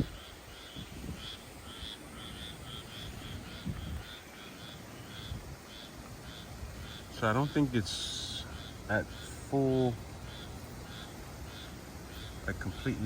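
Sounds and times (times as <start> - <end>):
frogs chirping: 0.0 - 13.0
wind and rain rumble: 0.0 - 13.0.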